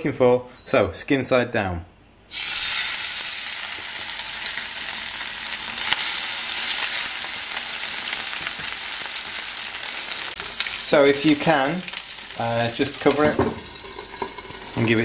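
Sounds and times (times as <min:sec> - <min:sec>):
fish sizzling in a frying pan: 0:02.3 - 0:15.0.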